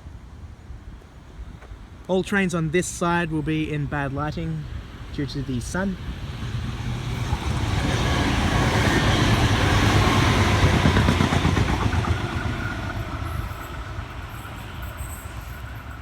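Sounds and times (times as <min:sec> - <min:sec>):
diesel railcar passing: 0:02.8 - 0:16.0.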